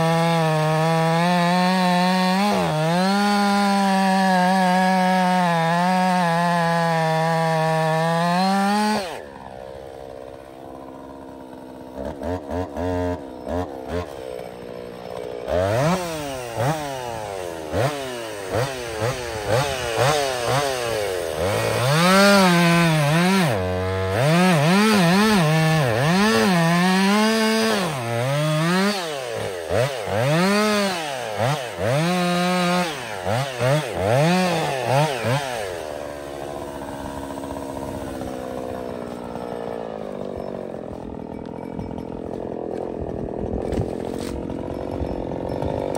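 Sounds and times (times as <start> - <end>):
chainsaw idling: 0.0 - 45.9
chainsaw revving while cutting: 0.0 - 45.9.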